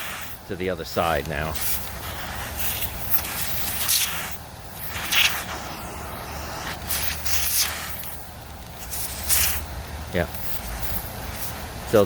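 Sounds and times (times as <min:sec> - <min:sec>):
compressed air blasts hissing: 0:00.0 - 0:12.0.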